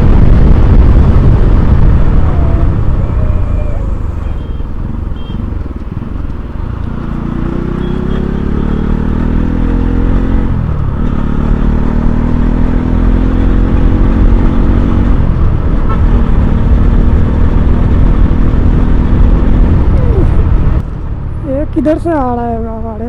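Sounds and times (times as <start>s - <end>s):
heavy low rumble: 0.0s - 7.8s, 9.3s - 23.0s
motorcycle engine running: 0.0s - 20.8s.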